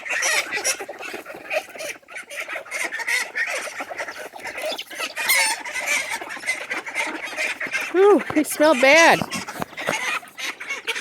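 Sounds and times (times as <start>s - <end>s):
chickens clucking: 0.0s - 11.0s
ducks calling: 0.0s - 11.0s.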